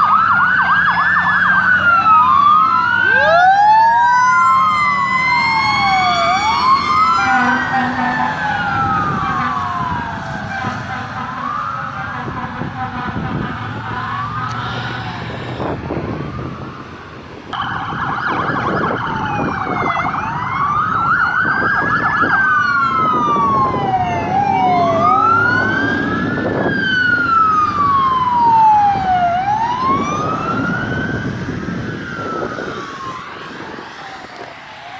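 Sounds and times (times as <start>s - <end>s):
emergency vehicle siren wailing: 0.0s - 34.9s.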